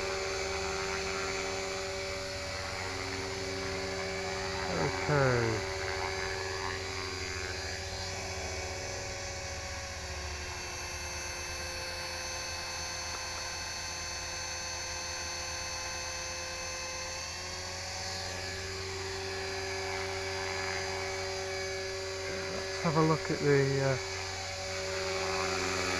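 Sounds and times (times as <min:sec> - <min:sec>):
rotor blades whirring: 0:00.0 - 0:13.6, 0:17.2 - 0:25.9
electric motor whine: 0:00.0 - 0:25.9.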